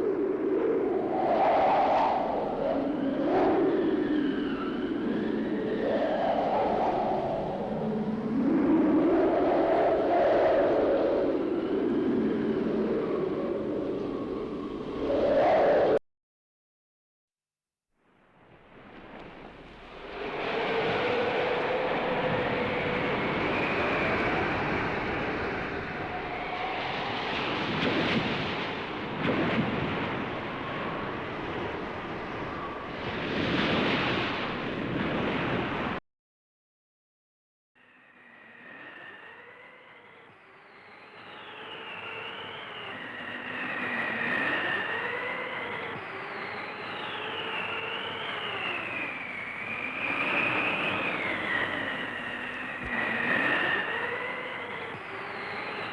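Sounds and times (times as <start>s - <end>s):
gusting wind: 0.0s - 16.0s, 18.4s - 36.0s, 38.2s - 55.9s.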